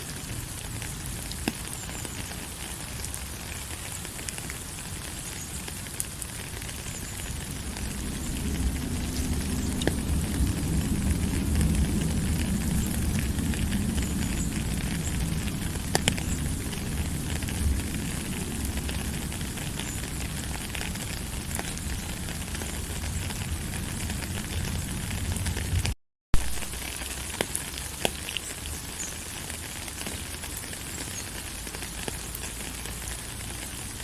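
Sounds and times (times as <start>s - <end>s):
fire burning: 0.0s - 34.0s
fire popping: 0.0s - 34.0s.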